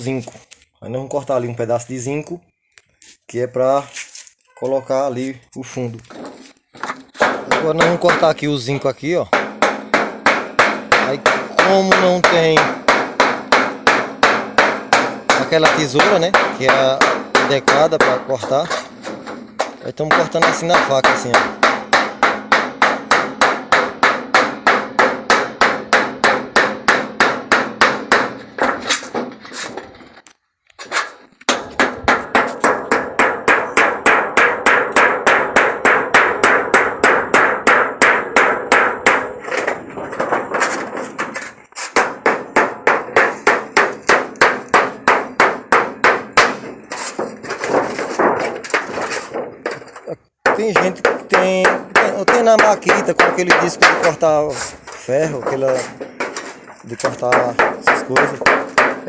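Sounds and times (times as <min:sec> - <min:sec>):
wood striking knife on metal sheet: 0:05.9 - 0:59.0.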